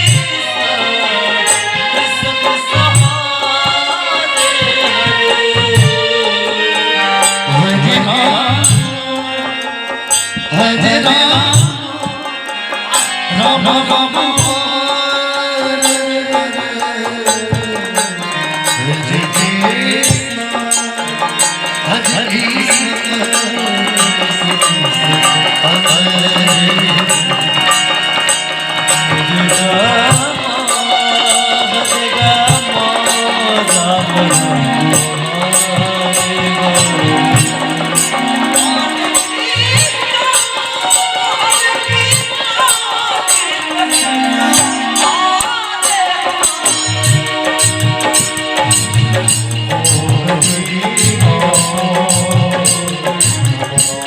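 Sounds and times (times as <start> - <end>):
tabla drumming: 0.0 - 54.0
wavering melody line: 5.2 - 54.0.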